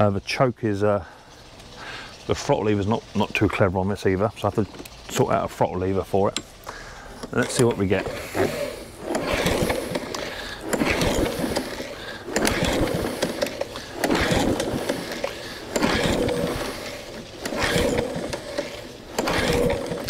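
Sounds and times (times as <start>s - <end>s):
lawnmower pull-starter whirring: 0.0s - 20.0s.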